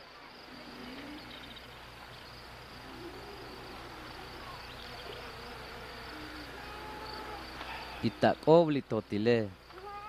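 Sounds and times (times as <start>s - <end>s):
insects chirping: 0.0s - 10.0s
low steady hum: 0.0s - 10.0s.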